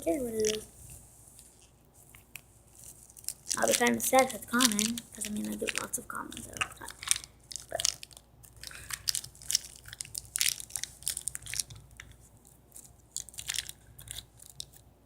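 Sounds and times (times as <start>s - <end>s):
plastic packaging crinkling: 0.1s - 0.8s, 1.5s - 14.8s.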